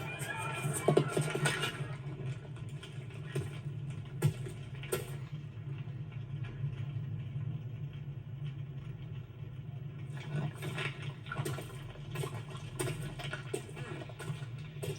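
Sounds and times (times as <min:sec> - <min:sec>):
faint crackles and clicks: 0:01.1 - 0:14.9.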